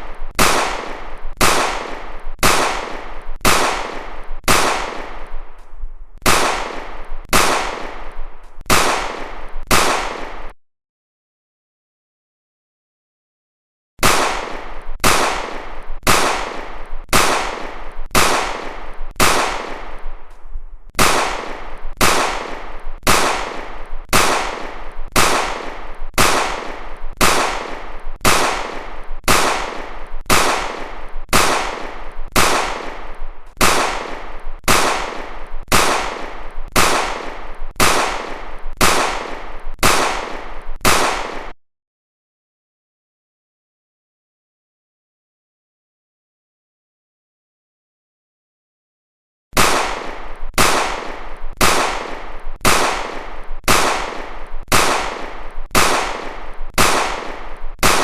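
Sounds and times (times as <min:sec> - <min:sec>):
pistol gunshots: 0:00.0 - 0:10.5, 0:14.0 - 0:41.6, 0:49.6 - 0:58.0.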